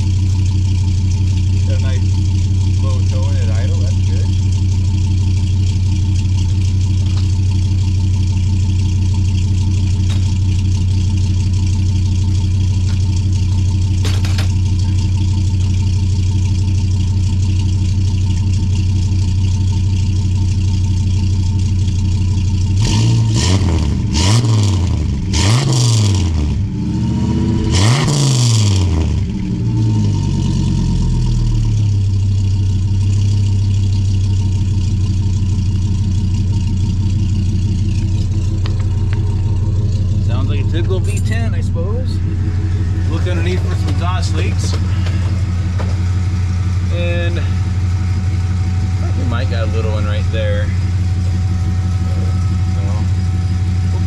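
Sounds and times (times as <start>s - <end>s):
truck engine idling and revving: 0.0s - 54.0s.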